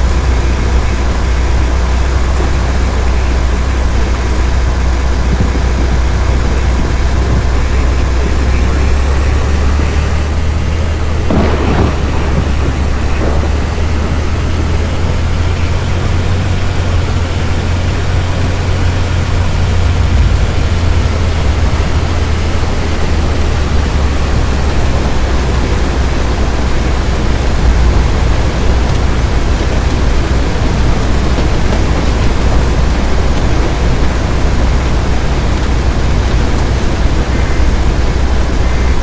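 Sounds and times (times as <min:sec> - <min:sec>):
deep low rumble: 0:00.0 - 0:39.0
strong wind on microphone: 0:00.0 - 0:39.0.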